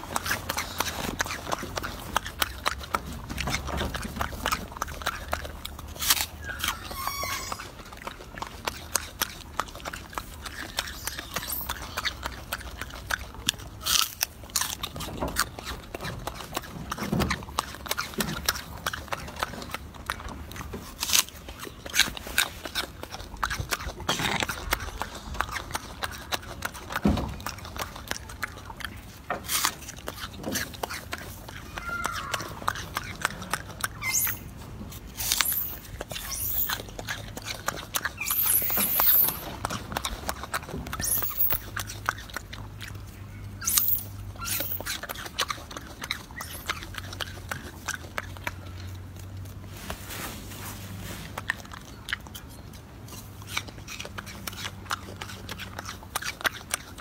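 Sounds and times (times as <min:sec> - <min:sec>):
monkey chewing apple: 0:00.0 - 0:57.0.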